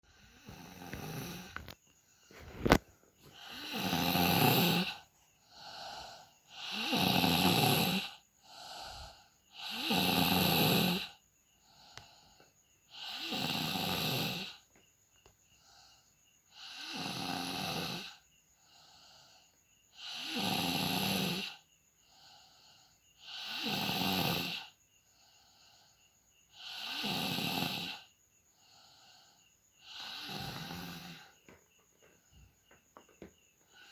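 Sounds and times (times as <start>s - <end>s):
person snoring: 0.0s - 12.2s, 12.9s - 14.6s, 15.6s - 25.7s, 26.5s - 31.5s.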